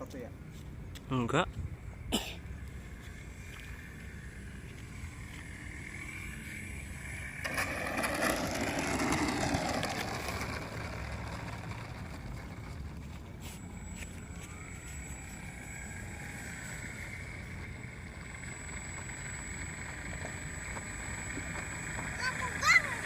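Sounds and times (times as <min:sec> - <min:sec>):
model plane electric motor whining: 0:02.9 - 0:23.0.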